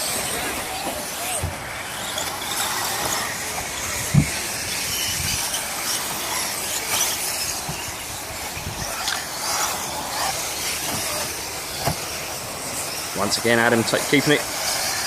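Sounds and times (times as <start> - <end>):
model car motors and tyres hissing: 0.0 - 15.0.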